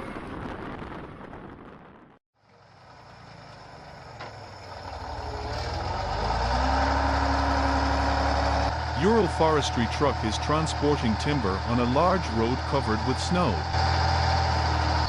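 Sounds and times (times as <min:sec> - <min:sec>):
heavy truck engine running: 0:02.4 - 0:15.0.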